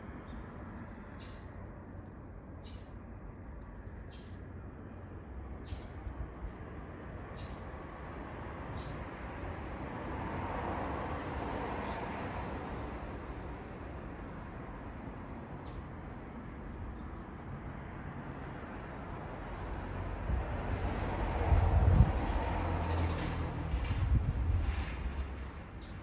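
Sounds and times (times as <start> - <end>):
outdoor background rumble and hiss: 0.0 - 26.0.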